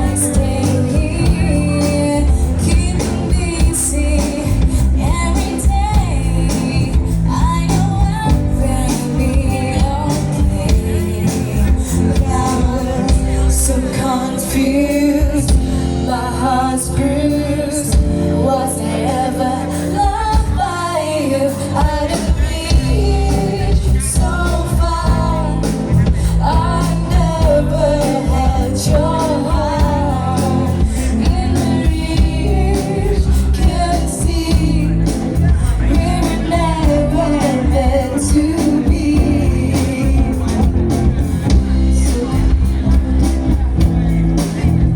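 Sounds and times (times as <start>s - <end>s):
woman singing: 0.0s - 44.7s
live band playing pop song: 0.0s - 44.9s.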